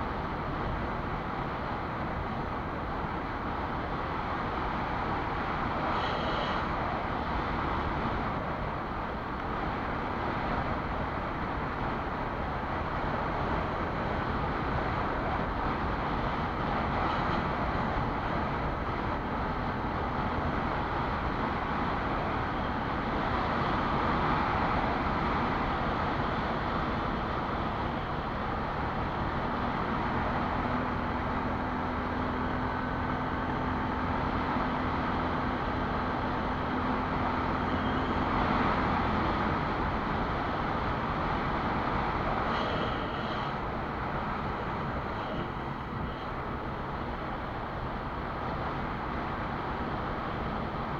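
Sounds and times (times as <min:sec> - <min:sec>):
wind and road noise: 0:00.0 - 0:50.9.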